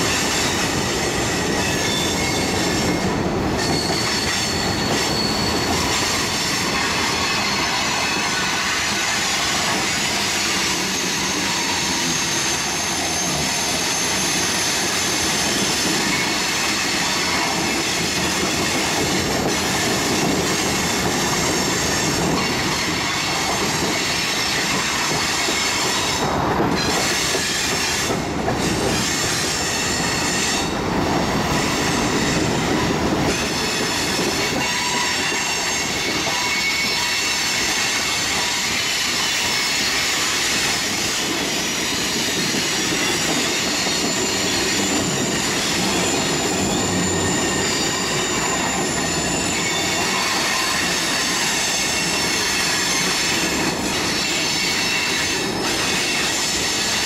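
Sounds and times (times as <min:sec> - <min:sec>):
high wheel squeal: 0:00.0 - 0:57.0
train wheels rumbling on rail: 0:00.0 - 0:57.0.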